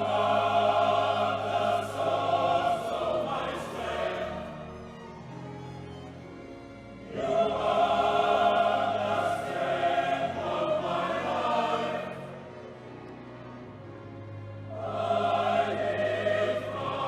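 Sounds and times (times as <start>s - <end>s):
choir singing sustained notes: 0.0s - 17.0s
soft low accompaniment: 0.0s - 17.0s.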